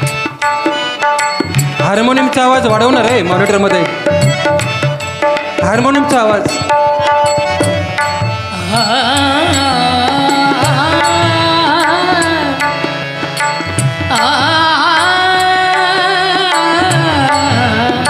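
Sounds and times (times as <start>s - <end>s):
devotional melody sliding in pitch: 0.0s - 18.0s
harmonium: 0.0s - 18.0s
tabla: 0.0s - 18.0s.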